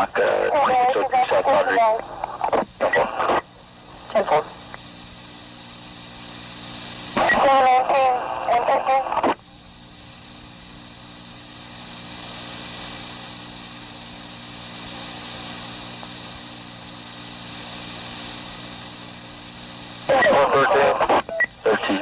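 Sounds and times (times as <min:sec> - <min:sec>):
radio electrical hum: 0:00.0 - 0:22.0
radio hiss: 0:00.0 - 0:22.0.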